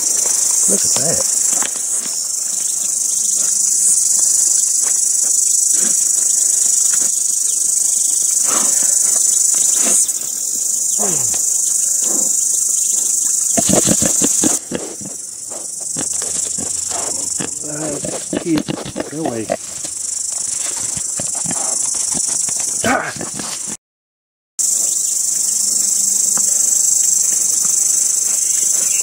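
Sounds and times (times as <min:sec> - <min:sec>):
pig snuffling: 0:00.0 - 0:10.4, 0:11.0 - 0:23.7, 0:27.2 - 0:29.0
high-pitched insect chorus: 0:00.0 - 0:23.8, 0:24.6 - 0:29.0.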